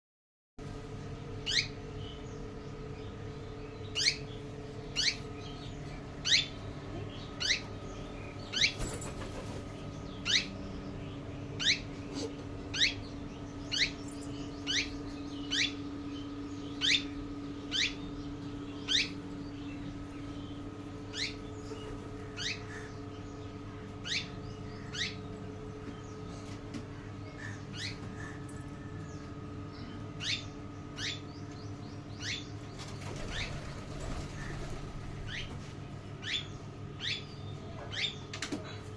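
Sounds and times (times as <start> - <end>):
steady hum: 0.6 - 38.9.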